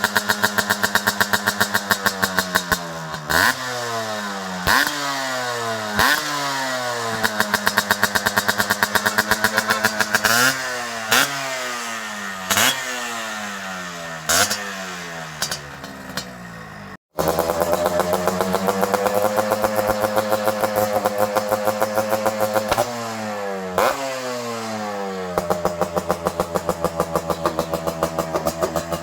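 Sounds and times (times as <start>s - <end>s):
two-stroke engine revving: 0.0s - 29.0s.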